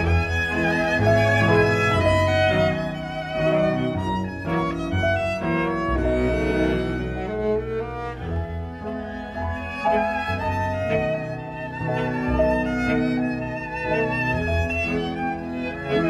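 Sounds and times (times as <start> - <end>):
cello: 0.0 - 16.0
violin melody: 0.0 - 16.0.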